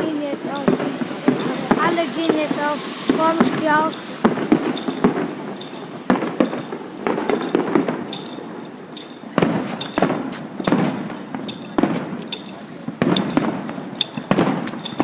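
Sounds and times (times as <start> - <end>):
fireworks bangs: 0.0 - 15.0
fireworks rumble: 0.0 - 15.0.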